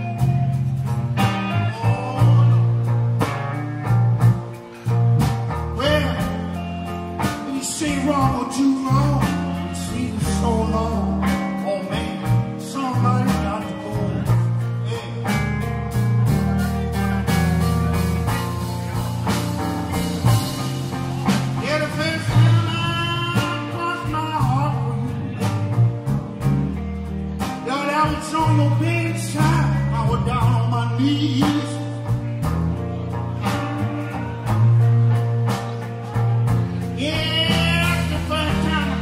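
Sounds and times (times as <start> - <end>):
bending sliding guitar lead: 0.0 - 39.0
electric blues band playing: 0.0 - 39.0.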